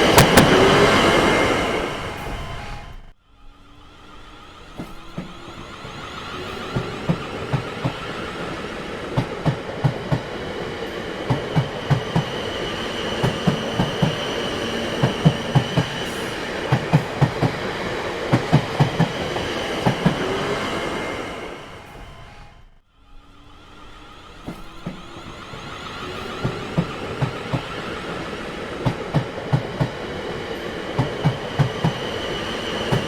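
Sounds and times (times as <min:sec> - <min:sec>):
train wheels clicking over rail joints: 0:00.0 - 0:02.6, 0:04.2 - 0:20.7, 0:24.2 - 0:33.0
train rumble: 0:00.0 - 0:33.0.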